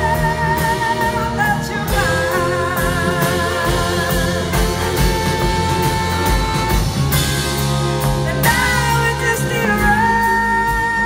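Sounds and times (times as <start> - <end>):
woman singing: 0.0 - 6.8, 8.3 - 11.0
drums: 0.0 - 11.0
electric guitar: 0.0 - 11.0.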